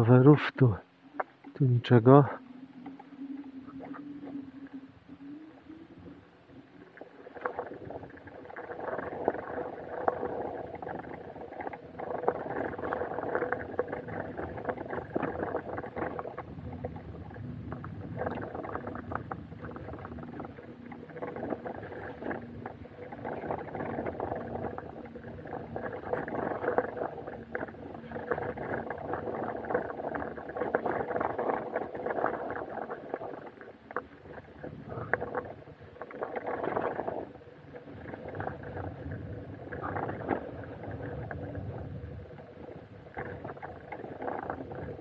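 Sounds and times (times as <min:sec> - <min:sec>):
wind on microphone: 0:01.6 - 0:45.0.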